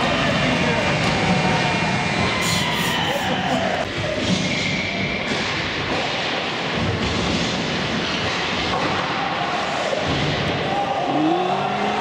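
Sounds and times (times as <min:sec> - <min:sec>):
arena hubbub: 0:00.0 - 0:07.0, 0:08.6 - 0:12.0.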